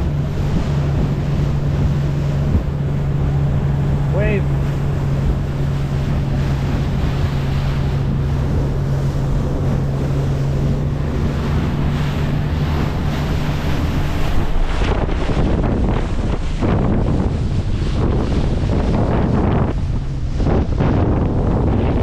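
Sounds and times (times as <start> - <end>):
boat motor humming: 0.0 - 22.0
wind buffeting microphone: 0.0 - 22.0.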